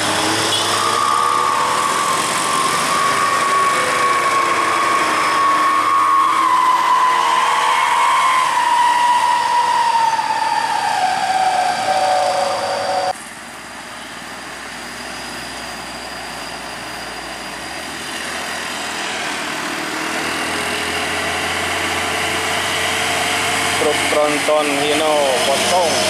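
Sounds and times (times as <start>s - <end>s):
truck engine pulling uphill: 0.0s - 26.0s.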